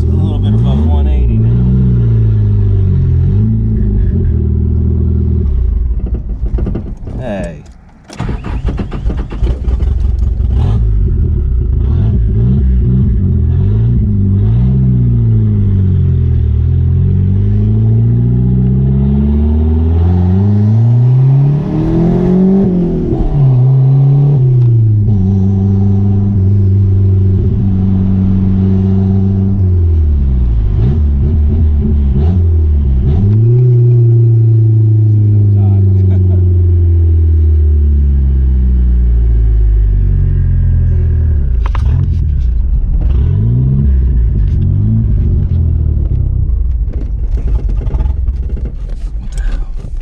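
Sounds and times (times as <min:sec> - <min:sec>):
turbocharged car engine revving: 0:00.0 - 0:05.9, 0:08.1 - 0:50.0.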